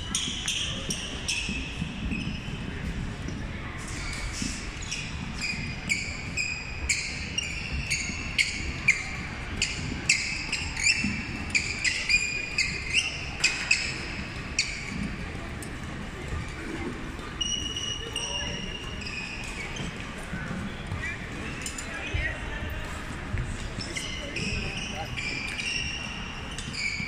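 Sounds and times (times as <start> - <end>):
shoes squeaking on wooden floor: 4.1 - 22.5, 23.4 - 27.0.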